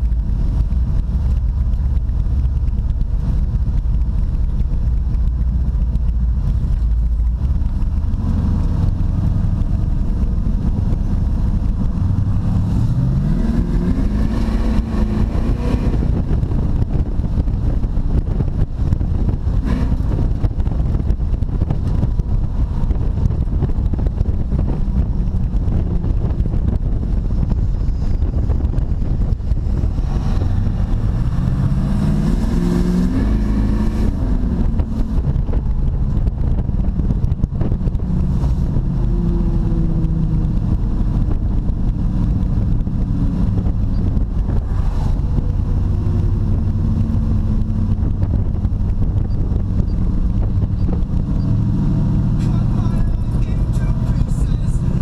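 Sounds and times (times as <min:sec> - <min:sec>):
car engine accelerating: 0:00.0 - 0:55.0
road noise inside car: 0:00.0 - 0:55.0.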